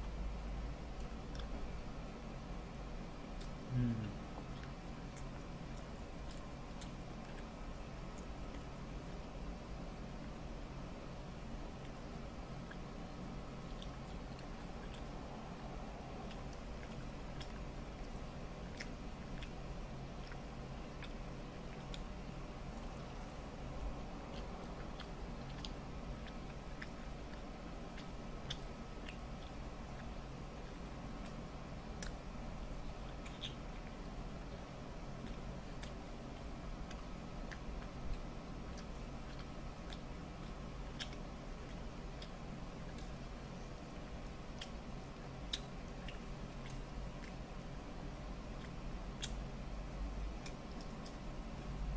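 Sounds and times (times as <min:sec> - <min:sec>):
low background hum: 0:00.0 - 0:51.9
person chewing: 0:00.9 - 0:01.7, 0:03.3 - 0:09.3, 0:11.8 - 0:49.5.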